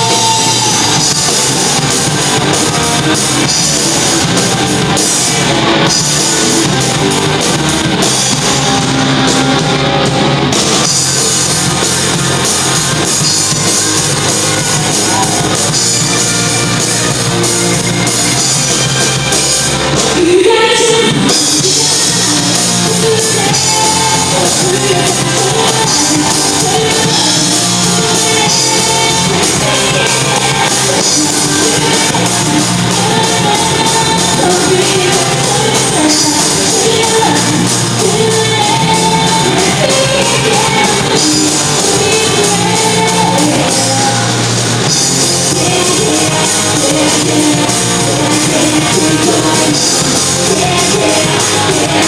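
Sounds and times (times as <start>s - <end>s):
live rock band playing: 0.0s - 52.0s
sung vocals: 0.0s - 52.0s.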